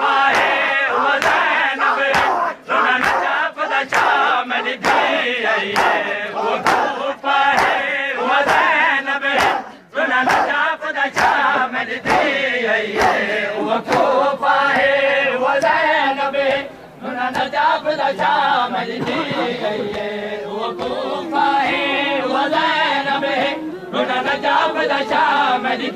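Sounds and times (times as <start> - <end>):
crowd of men chanting: 0.0 - 25.9.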